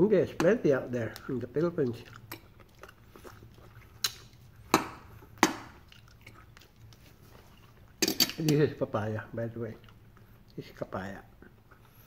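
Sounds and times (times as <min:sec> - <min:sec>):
quiet chewing: 0:00.8 - 0:08.6, 0:09.6 - 0:12.0.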